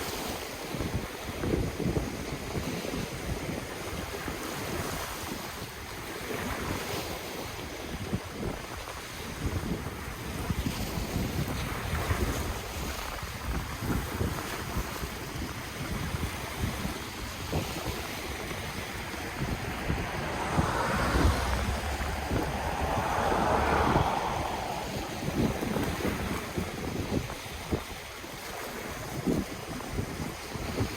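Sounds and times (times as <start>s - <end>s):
wind buffeting microphone: 0.7s - 30.9s
ocean waves washing ashore: 5.2s - 30.9s.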